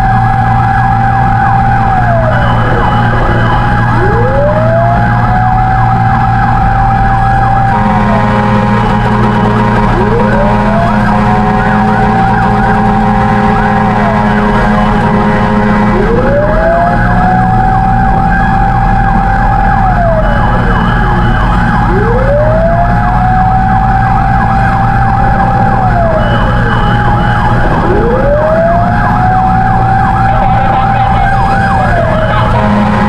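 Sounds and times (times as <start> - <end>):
siren fast yelp: 0.0 - 33.0
siren slow wail: 0.0 - 33.0
truck engines rumbling: 0.0 - 33.0.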